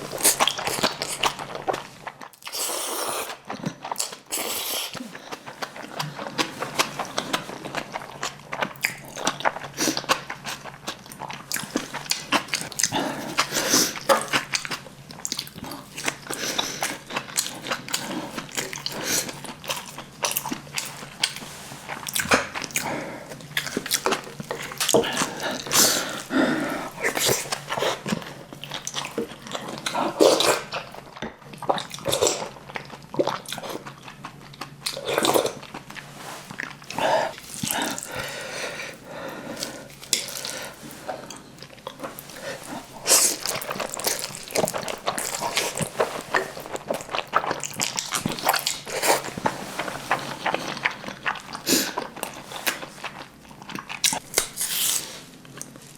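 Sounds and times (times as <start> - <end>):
person chewing: 0.0 - 55.9.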